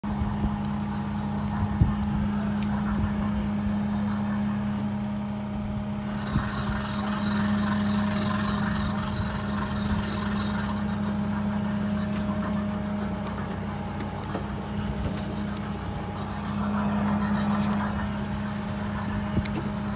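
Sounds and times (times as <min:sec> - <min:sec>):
engine idling: 0:00.0 - 0:19.9.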